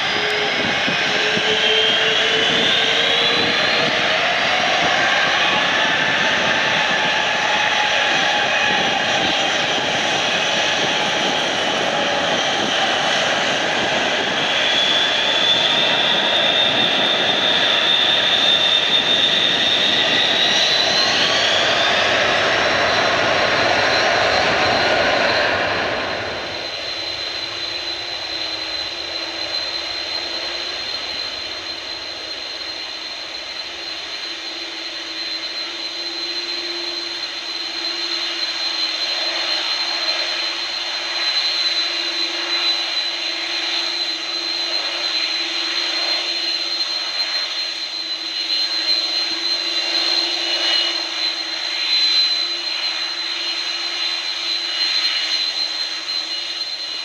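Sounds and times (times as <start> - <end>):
jet engines idling: 0.0 - 57.0.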